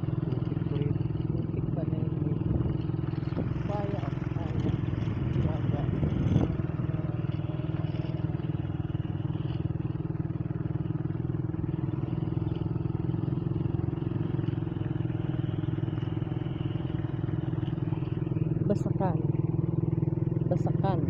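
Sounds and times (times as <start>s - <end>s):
small motorcycle engine running: 0.0s - 21.0s.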